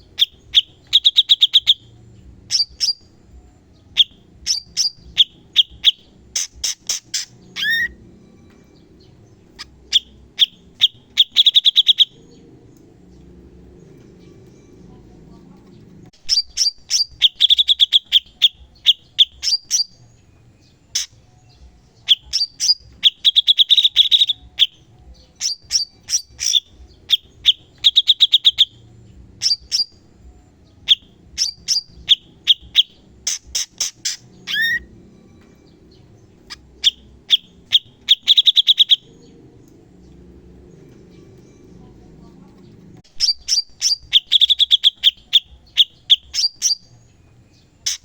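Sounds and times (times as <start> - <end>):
bulbul singing rapid notes: 0.0 - 8.0, 8.7 - 13.2, 16.1 - 20.0, 20.6 - 48.0.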